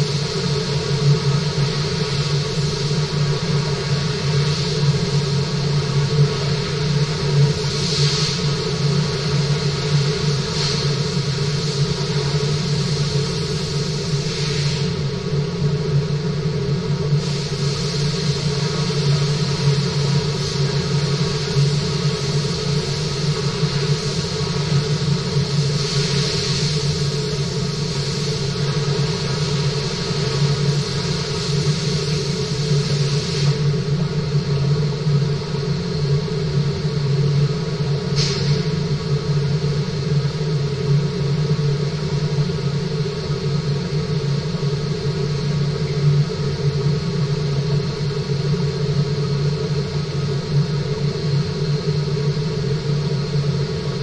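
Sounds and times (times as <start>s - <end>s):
hiss: 0.0s - 54.0s
mechanical hum with low drone: 0.0s - 54.0s.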